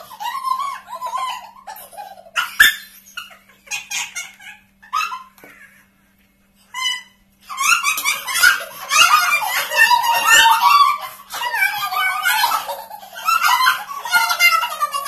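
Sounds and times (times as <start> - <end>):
women laughing hysterically: 0.0 - 5.9, 6.8 - 15.0.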